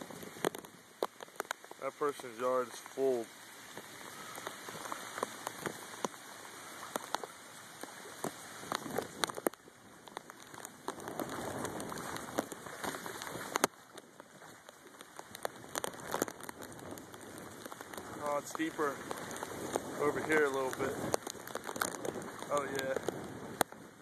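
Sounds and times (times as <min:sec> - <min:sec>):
heavy rain falling: 0:00.0 - 0:24.0
raindrops ticking close by: 0:00.0 - 0:24.0.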